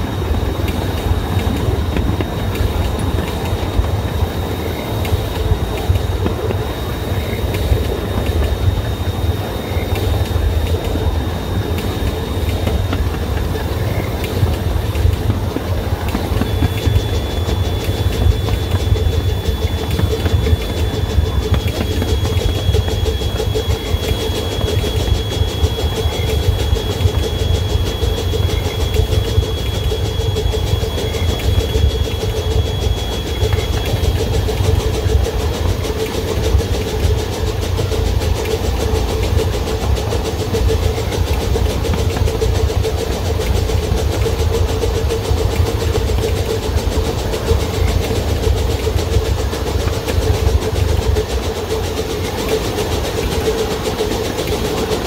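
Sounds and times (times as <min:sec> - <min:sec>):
high whine: 0:00.0 - 0:55.0
locomotive engine running: 0:00.0 - 0:55.0
wheels rumbling on rails: 0:00.0 - 0:55.0.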